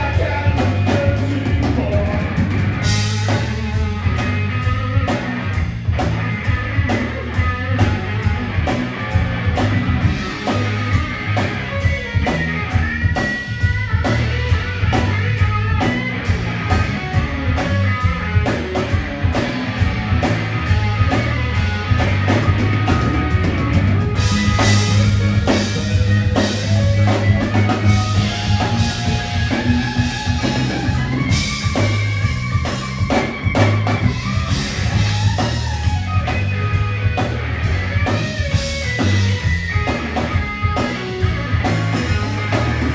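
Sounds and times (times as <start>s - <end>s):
drum kit: 0.0s - 42.9s
electric bass: 0.0s - 42.9s
electric guitar bending notes: 0.0s - 42.9s.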